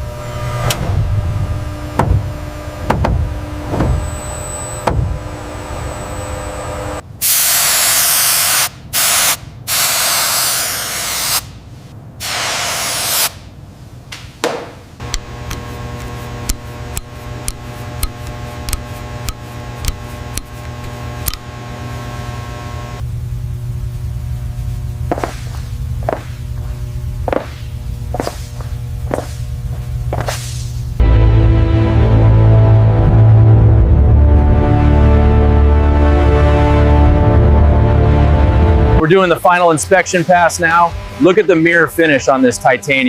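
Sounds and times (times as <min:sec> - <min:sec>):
steady hum: 0:00.0 - 0:09.3, 0:13.3 - 0:43.0.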